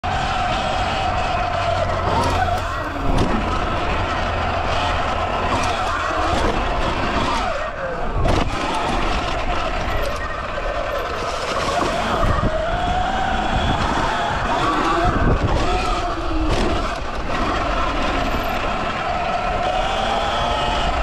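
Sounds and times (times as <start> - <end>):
steady rushing noise: 0.0 - 21.0
electric motor whining: 0.2 - 21.0.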